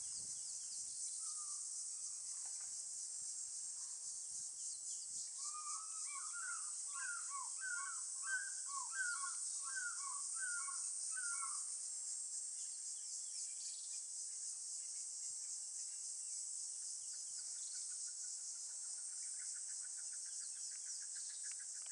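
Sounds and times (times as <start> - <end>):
insects chorus: 0.0 - 21.9.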